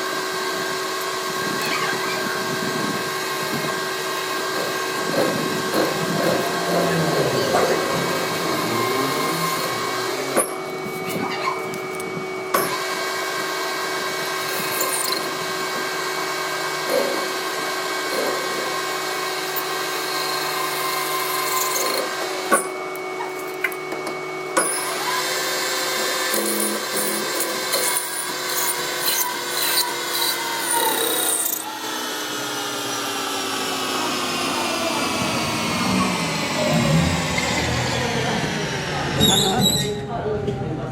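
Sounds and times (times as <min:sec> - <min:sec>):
power tool motor whining: 0:00.0 - 0:40.1.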